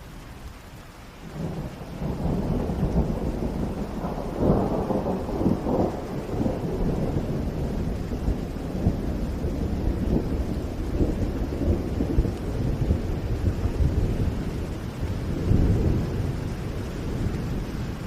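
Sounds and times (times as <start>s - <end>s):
steady rain: 0.0s - 18.0s
thunder rumbling: 1.3s - 18.0s.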